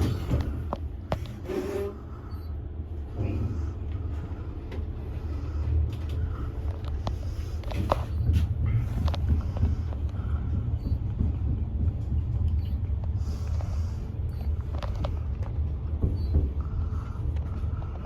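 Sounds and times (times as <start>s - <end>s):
elevator rumbling in shaft: 0.0s - 18.0s.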